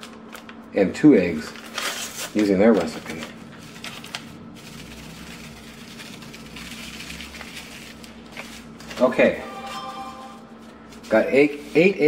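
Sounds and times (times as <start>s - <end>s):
paper packet rustling: 0.0s - 0.7s, 1.3s - 12.0s.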